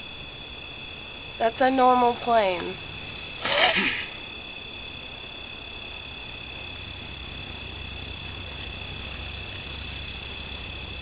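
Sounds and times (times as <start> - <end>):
crickets trilling: 0.0 - 11.0
low hum: 0.0 - 11.0.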